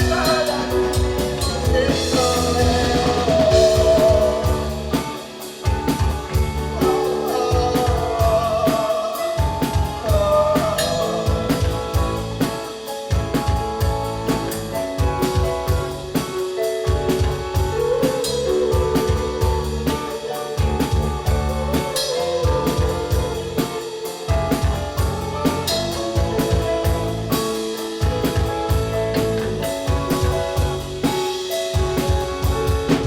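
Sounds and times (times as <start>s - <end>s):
drum kit beat: 0.0s - 33.0s
guitar: 0.0s - 33.0s.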